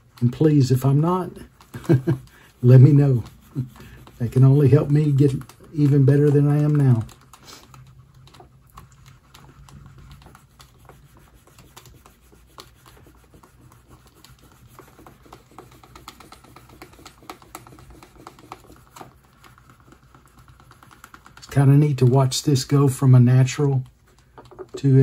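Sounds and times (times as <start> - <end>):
burnisher clicking and scratching: 0.0 - 25.0.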